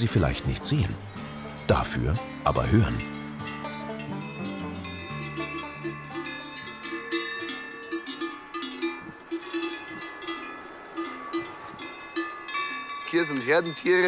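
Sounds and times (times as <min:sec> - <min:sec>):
cowbells clanking: 0:00.0 - 0:14.0.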